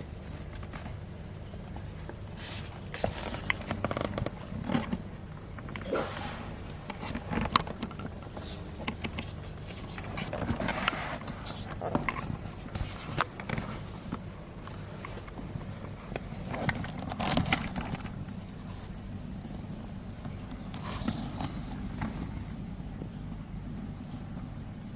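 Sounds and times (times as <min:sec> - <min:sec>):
rustling: 0:00.0 - 0:22.8
faint low hum: 0:00.0 - 0:24.9.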